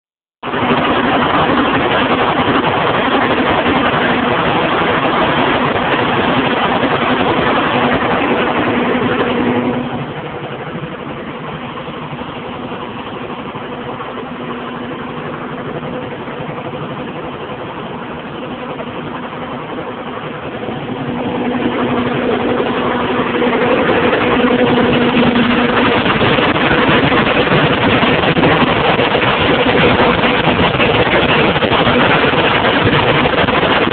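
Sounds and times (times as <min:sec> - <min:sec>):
diesel engine misfiring: 0:00.5 - 0:33.9.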